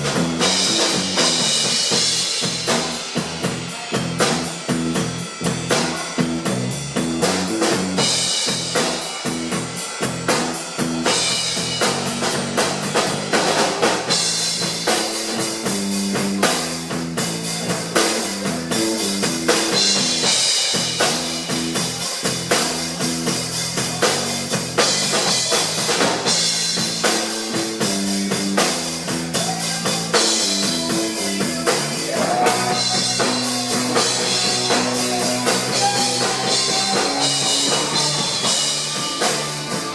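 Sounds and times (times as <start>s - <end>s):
drum rimshots and bass drum: 0.0s - 39.9s
guitar: 0.0s - 39.9s
rock band playing: 0.0s - 39.9s.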